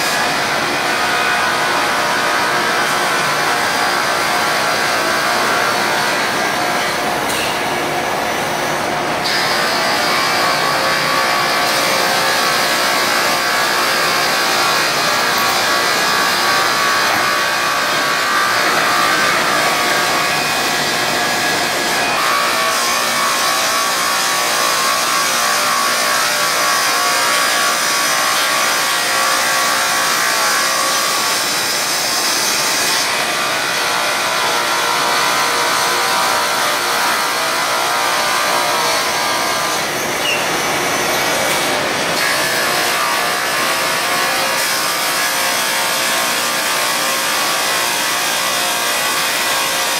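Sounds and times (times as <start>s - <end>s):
roller conveyors running: 0.0s - 49.9s.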